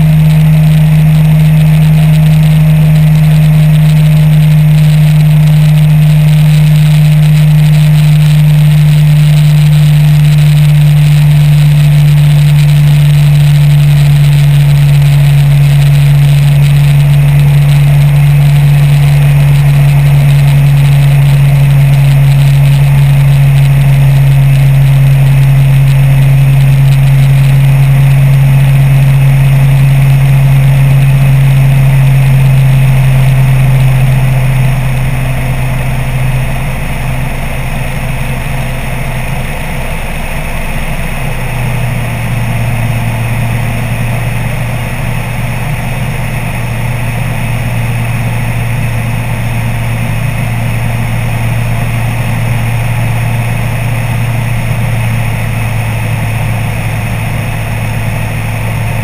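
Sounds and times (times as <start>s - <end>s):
light aircraft engine and propeller droning: 0.0s - 59.0s.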